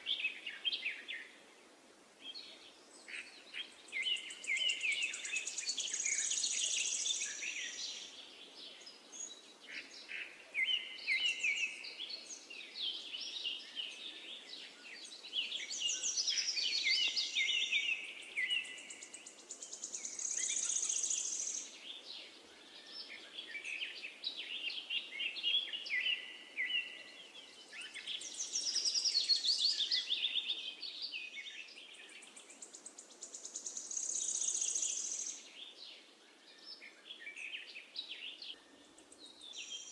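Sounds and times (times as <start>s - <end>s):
birds chirping and singing: 2.2s - 39.9s.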